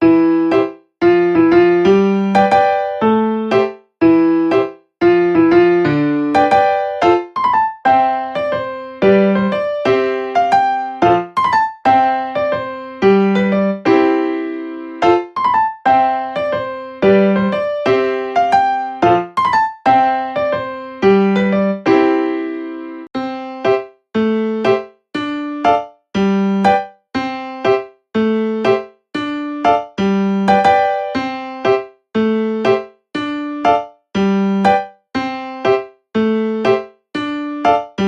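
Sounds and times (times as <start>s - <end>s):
electric piano melody: 0.0s - 38.0s.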